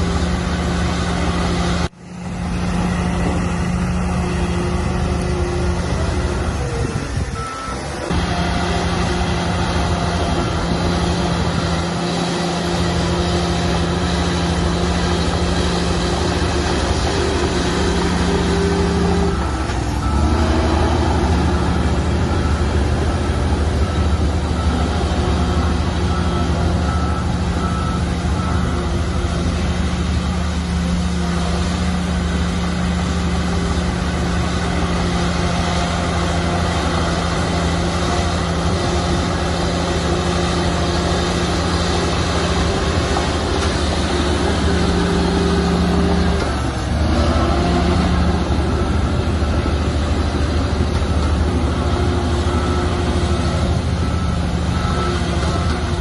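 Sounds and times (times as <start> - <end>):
heavy diesel machinery running: 0.0 - 56.0
reversing alarm beeping: 3.0 - 56.0.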